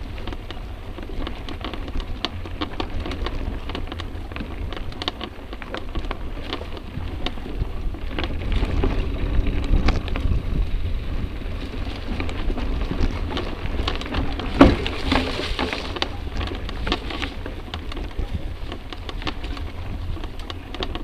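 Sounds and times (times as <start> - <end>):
bike riding over rough dirt: 0.0 - 21.0.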